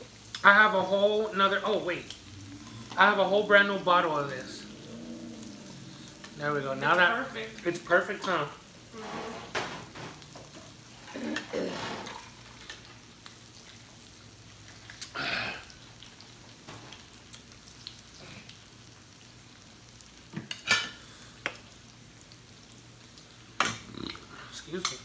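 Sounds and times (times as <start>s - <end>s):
meat sizzling on a grill: 0.0s - 25.0s.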